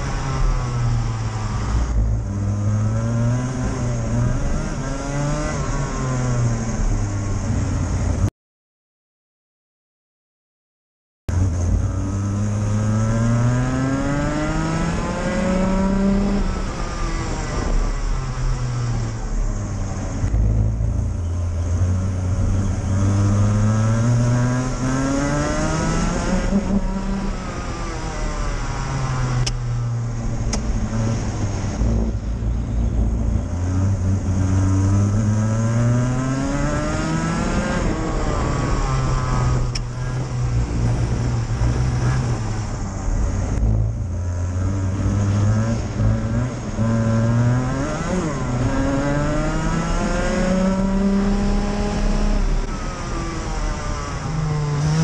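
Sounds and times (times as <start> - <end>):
kart engine accelerating: 0.0 - 7.8, 11.3 - 55.0.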